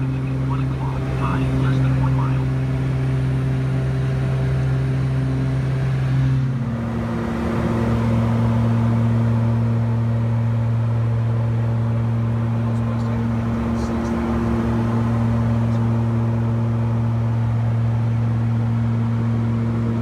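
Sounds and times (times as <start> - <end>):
turboprop engine drone: 0.0 - 20.0.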